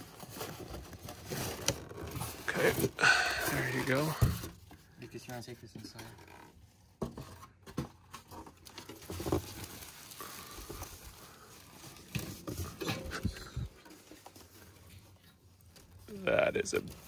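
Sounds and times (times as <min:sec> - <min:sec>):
styrofoam rustling and scraping: 0:00.0 - 0:17.0.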